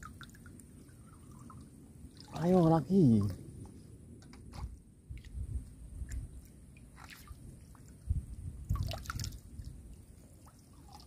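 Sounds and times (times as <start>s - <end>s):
water splashing and dripping: 0.0s - 3.8s, 4.8s - 11.0s.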